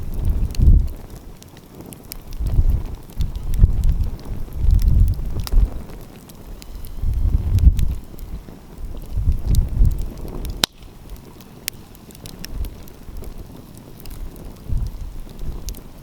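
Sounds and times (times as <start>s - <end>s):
wind rumble on microphone: 0.0s - 16.0s
wood fire crackling and popping: 0.0s - 16.0s.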